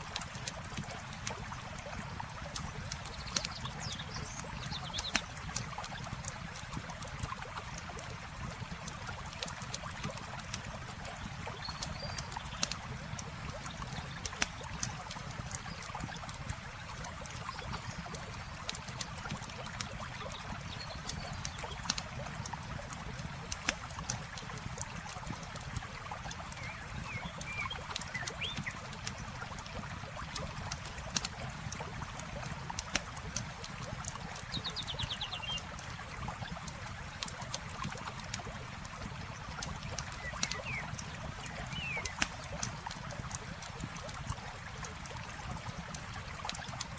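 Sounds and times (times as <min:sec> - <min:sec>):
campfire crackling and popping: 0:00.0 - 0:35.0, 0:35.6 - 0:46.9
river water flowing: 0:00.0 - 0:46.9.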